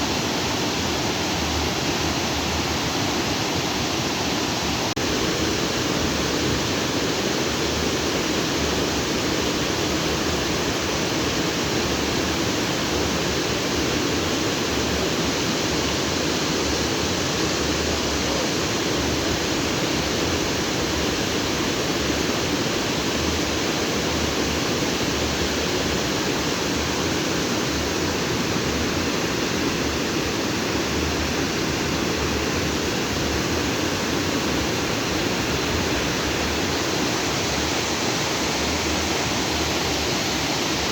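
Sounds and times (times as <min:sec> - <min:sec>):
stream water rushing over rocks: 0:00.0 - 0:40.9.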